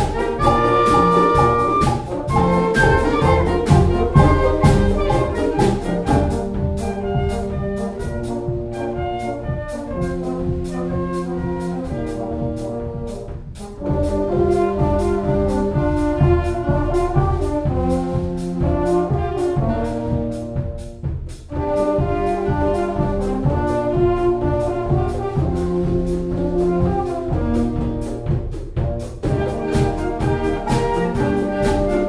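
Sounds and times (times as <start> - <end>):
drum kit steady beat: 0.0 - 32.0
wind band playing: 0.0 - 32.0.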